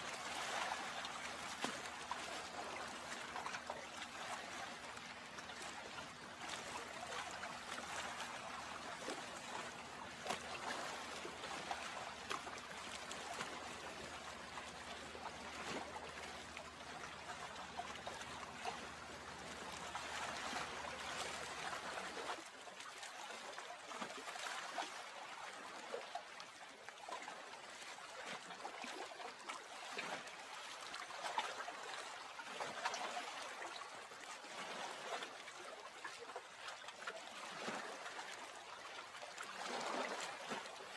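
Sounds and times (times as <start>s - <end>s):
lake water trickling: 0.0s - 40.9s.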